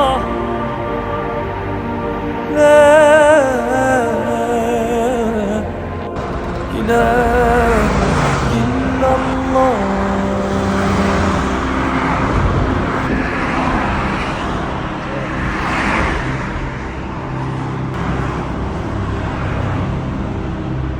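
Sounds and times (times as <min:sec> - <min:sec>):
cars passing: 0:00.0 - 0:20.9
steady pitched tone: 0:00.0 - 0:20.9.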